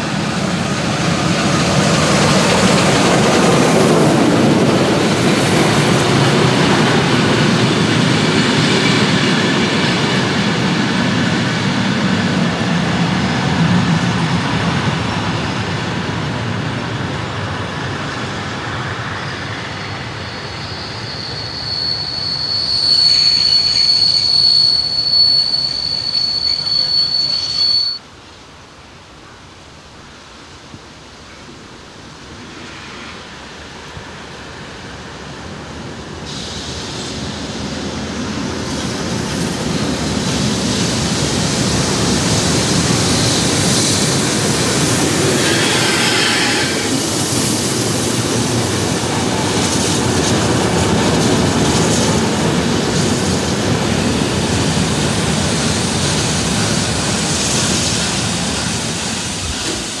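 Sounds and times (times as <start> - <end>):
train rolling past on rails: 0.0 - 28.4, 30.1 - 60.0.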